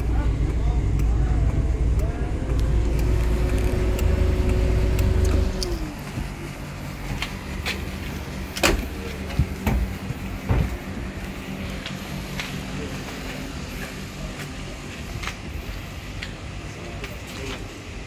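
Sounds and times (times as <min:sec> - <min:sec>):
car engine idling and shutting off: 0:00.0 - 0:18.0.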